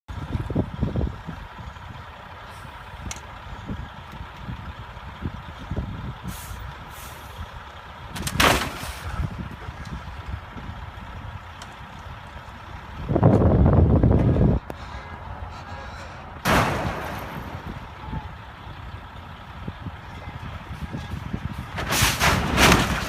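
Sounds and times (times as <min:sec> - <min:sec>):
wind buffeting: 0:00.1 - 0:08.4, 0:09.0 - 0:23.0
highway traffic rumble: 0:00.1 - 0:23.0.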